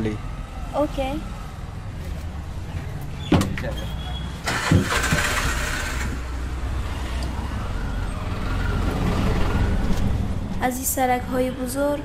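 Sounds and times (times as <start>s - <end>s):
car engine and road rumble: 0.0s - 12.0s
traffic noise: 0.0s - 12.0s.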